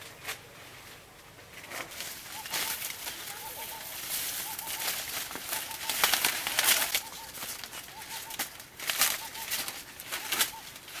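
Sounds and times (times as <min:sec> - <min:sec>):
corn leaves rustling: 0:00.0 - 0:11.0.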